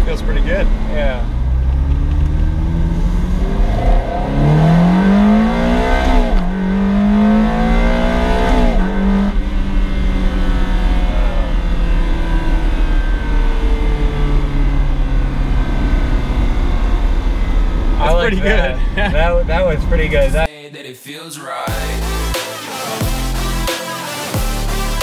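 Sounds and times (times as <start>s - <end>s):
car engine accelerating hard: 0.0s - 20.5s.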